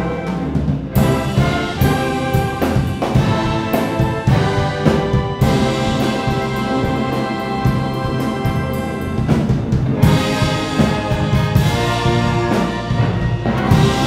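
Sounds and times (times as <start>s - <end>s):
wind band playing held chords: 0.0s - 14.0s.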